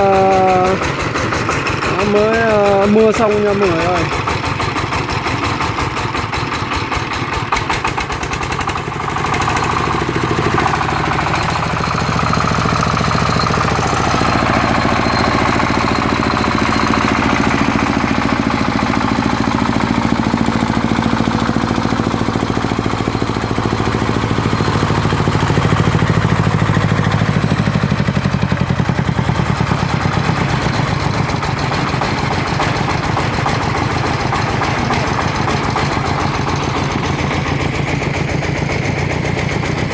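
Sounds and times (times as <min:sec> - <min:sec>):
diesel engine thumping under load: 0:00.0 - 0:39.9.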